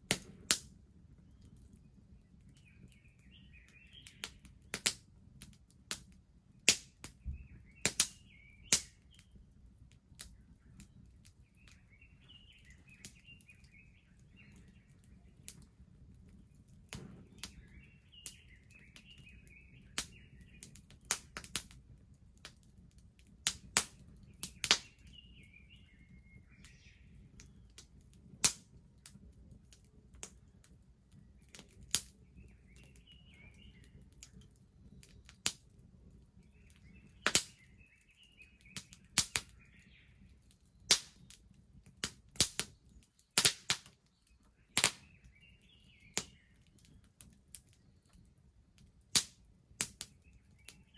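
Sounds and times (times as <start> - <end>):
small birds chirping: 0.0 - 50.9
wood fire crackling and popping: 0.0 - 50.9.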